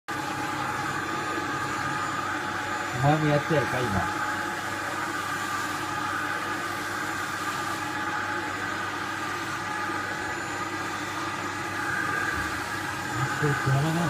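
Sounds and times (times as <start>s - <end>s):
vacuum cleaner whining: 0.1s - 14.0s.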